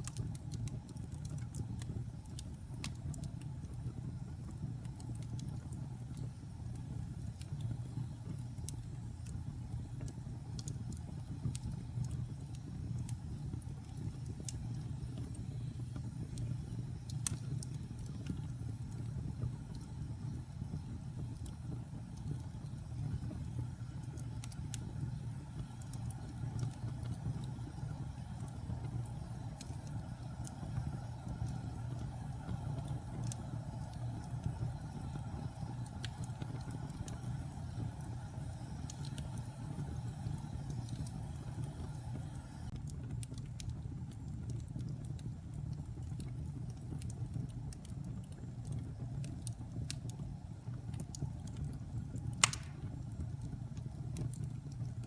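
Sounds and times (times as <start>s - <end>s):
fire crackles and pops: 0.0s - 55.0s
wood fire rumbling: 0.0s - 55.0s.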